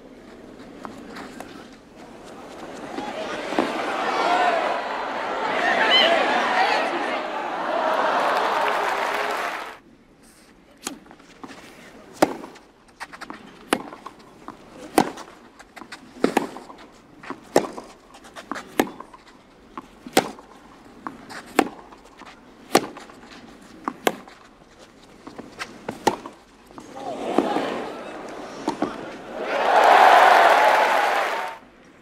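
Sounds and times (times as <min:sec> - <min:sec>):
tennis racquets hitting ball: 0:00.6 - 0:09.2, 0:10.8 - 0:31.0.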